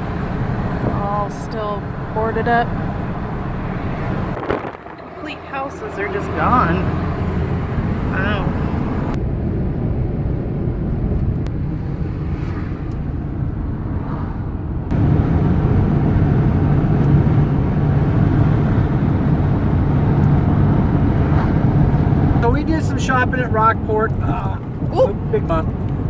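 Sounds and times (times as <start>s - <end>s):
road and engine rumble in cab: 0.0s - 26.0s.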